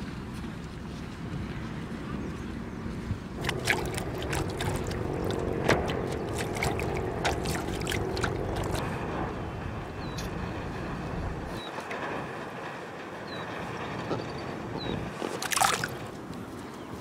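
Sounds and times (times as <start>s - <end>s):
river water splashing and lapping: 0.0s - 13.9s, 14.5s - 17.0s.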